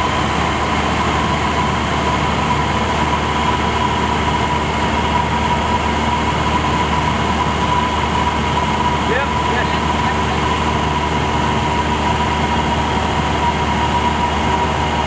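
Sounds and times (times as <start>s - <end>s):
plane engine and propeller drone: 0.0s - 15.0s.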